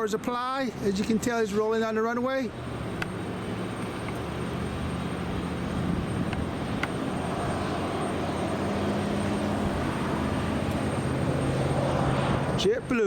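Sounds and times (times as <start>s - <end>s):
jet engines at takeoff power: 0.0s - 13.0s.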